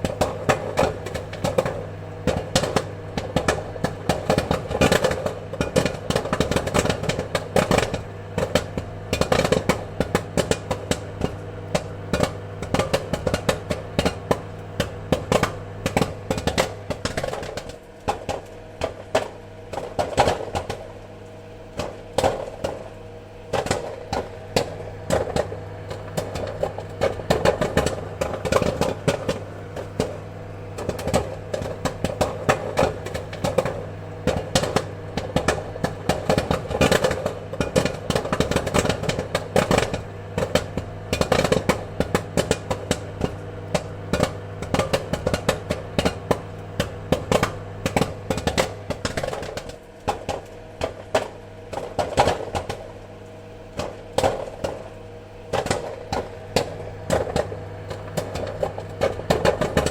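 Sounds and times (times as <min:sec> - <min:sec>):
popcorn popping: 0:00.0 - 0:59.9
steady low hum: 0:00.0 - 0:59.9.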